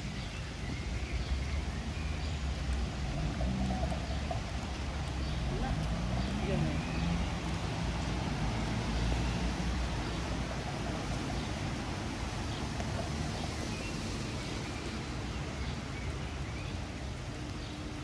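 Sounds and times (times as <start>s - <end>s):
low traffic rumble: 0.0s - 18.0s
rain hiss: 0.0s - 18.0s.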